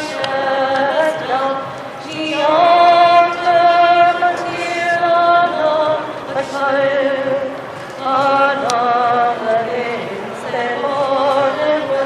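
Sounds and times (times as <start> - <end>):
woman singing anthem: 0.0 - 12.0.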